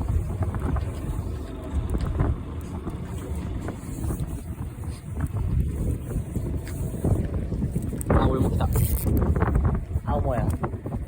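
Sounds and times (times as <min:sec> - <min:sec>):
low rumble of boat and water: 0:00.0 - 0:11.0
wind buffeting microphone: 0:00.0 - 0:11.0.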